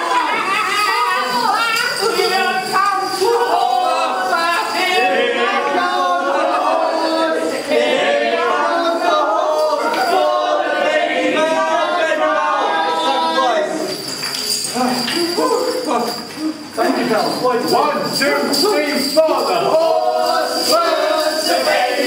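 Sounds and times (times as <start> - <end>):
voices singing unaccompanied: 0.0 - 14.2, 17.4 - 22.0.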